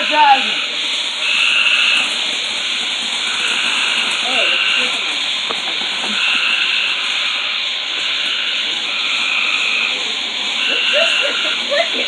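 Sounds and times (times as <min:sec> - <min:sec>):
firework fountain hissing spray: 0:00.0 - 0:12.0.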